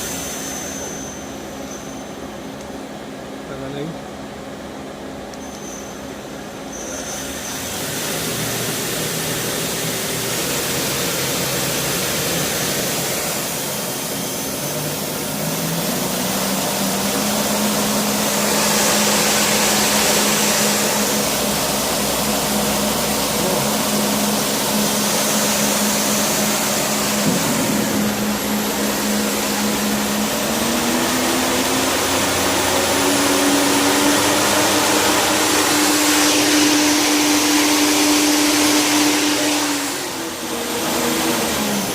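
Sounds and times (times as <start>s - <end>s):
lathe spindle humming: 5.3s - 41.9s.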